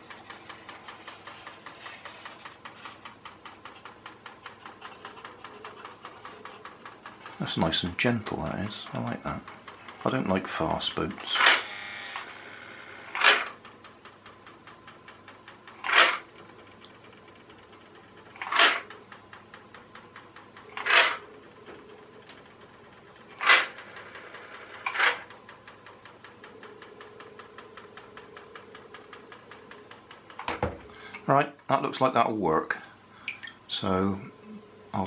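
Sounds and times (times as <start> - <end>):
small electric motor ticking rattle: 0.0 - 31.1.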